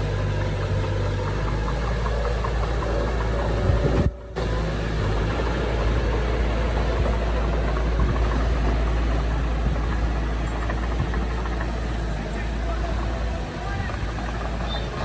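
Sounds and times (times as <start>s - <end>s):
diesel engine low rumble: 0.0s - 15.0s.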